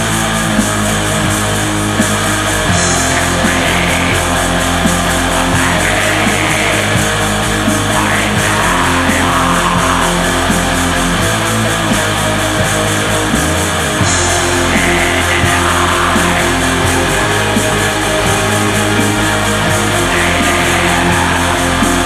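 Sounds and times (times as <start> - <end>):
heavy metal music: 0.0 - 22.0.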